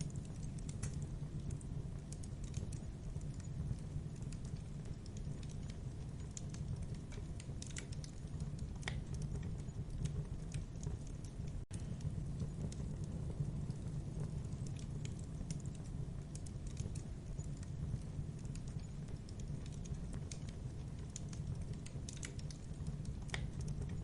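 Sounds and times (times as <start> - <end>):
low rumble of flames: 0.0 - 24.0
wood fire pops and snaps: 0.0 - 24.0.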